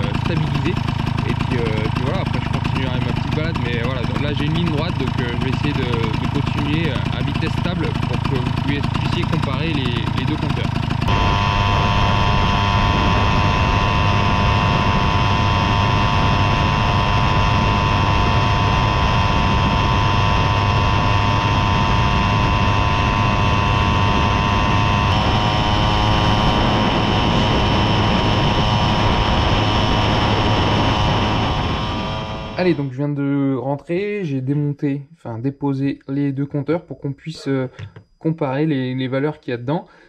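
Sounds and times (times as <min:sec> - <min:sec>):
moped engine running: 0:00.0 - 0:32.9.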